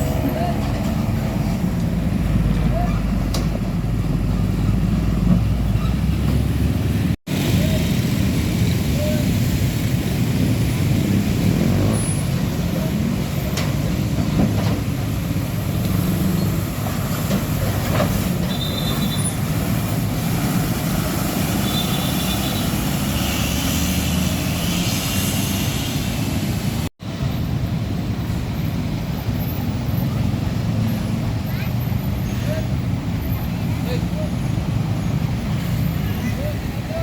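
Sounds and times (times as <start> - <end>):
diesel trucks and traffic rumbling: 0.0 - 37.0.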